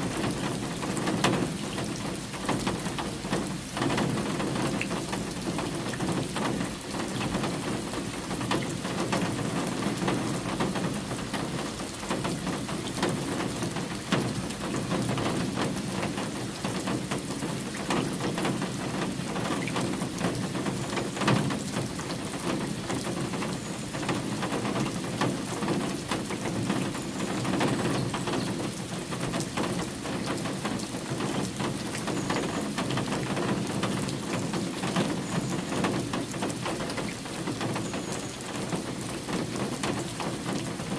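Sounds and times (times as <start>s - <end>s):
rain falling: 0.0s - 40.9s
raindrops ticking on surfaces: 0.0s - 40.9s.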